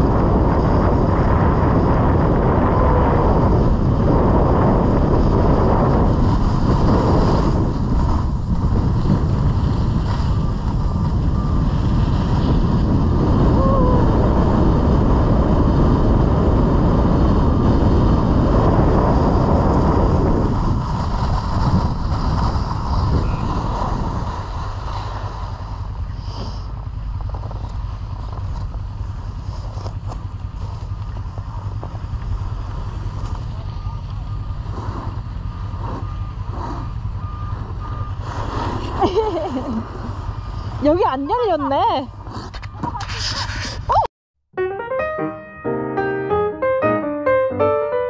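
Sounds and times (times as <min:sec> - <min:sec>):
snowboard scraping over snow: 0:00.0 - 0:43.9
wind buffeting microphone: 0:00.0 - 0:44.0.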